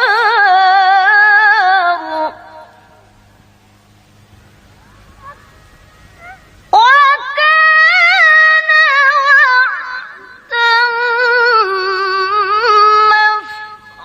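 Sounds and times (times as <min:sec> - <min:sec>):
woman reciting melodically: 0:00.0 - 0:03.1, 0:05.2 - 0:14.0.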